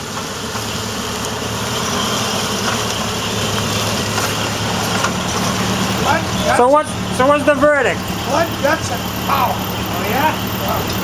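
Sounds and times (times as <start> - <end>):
truck engine running at low speed: 0.0 - 11.0.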